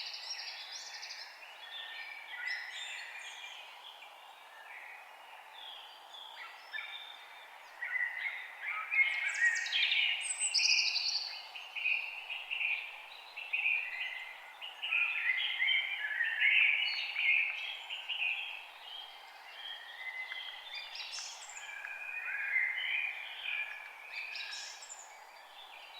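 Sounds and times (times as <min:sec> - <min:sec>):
forest birds singing: 0:00.0 - 0:25.9.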